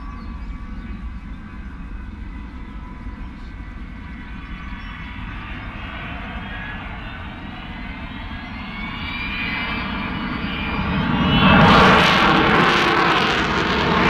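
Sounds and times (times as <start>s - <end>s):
jet engine whine rising: 0.0s - 14.0s
jet engines deep rumble: 0.0s - 14.0s.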